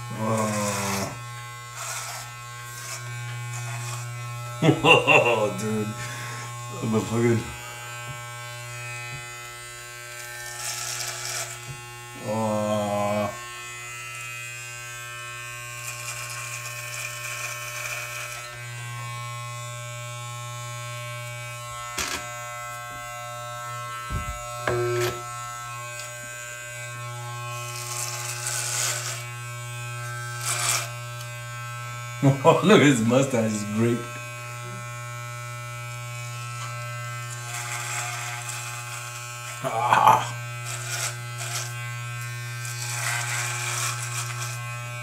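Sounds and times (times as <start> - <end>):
blades cutting beard hair: 0.0 - 45.0
electric hair clippers buzzing: 0.0 - 45.0.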